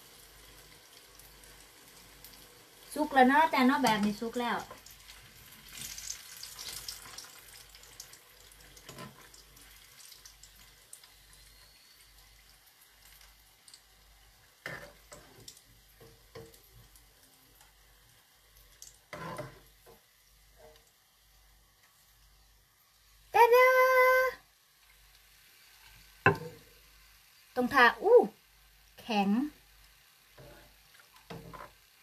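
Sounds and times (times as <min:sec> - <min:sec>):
frying oil sizzling: 0:00.0 - 0:32.0.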